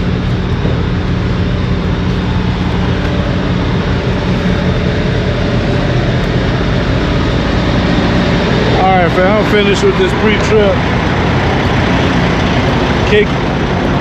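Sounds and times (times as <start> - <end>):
broad rushing noise: 0.0 - 14.0
diesel engine idling: 0.0 - 14.0.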